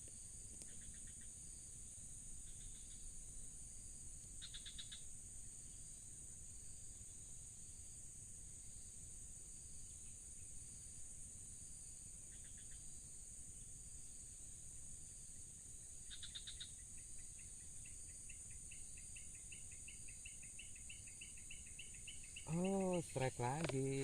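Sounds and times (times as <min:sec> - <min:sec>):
cricket chirps: 0:00.0 - 0:24.0
crickets and insects droning: 0:00.0 - 0:24.0.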